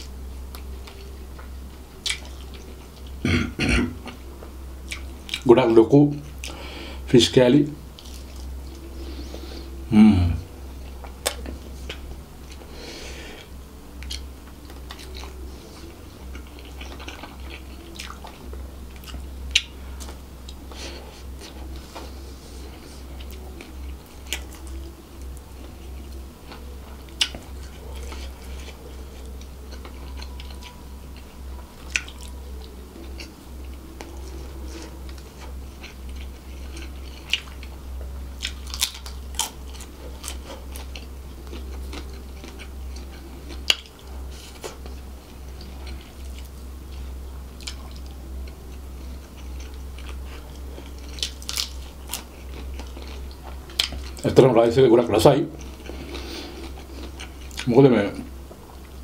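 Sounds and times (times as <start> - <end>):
person chewing: 0.0 - 5.5, 7.9 - 54.3, 55.5 - 59.0
steady low hum: 0.0 - 59.0.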